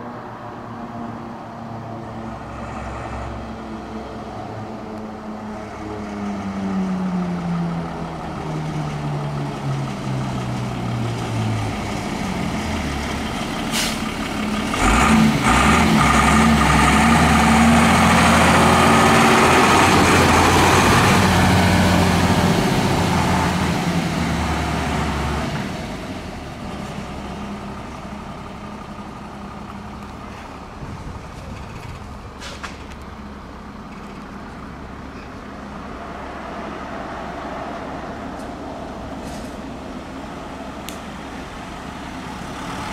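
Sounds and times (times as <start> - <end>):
fire engine diesel engine: 0.0 - 42.9
truck rushing past: 0.0 - 42.9.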